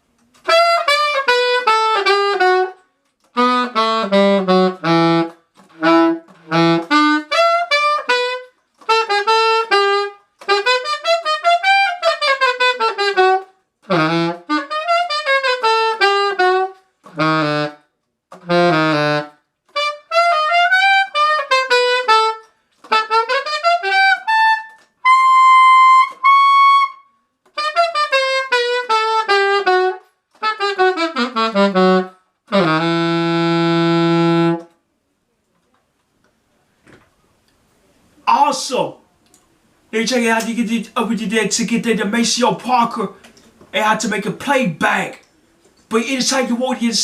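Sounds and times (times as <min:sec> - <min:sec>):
alto saxophone playing funk: 0:00.3 - 0:34.8, 0:40.0 - 0:45.2.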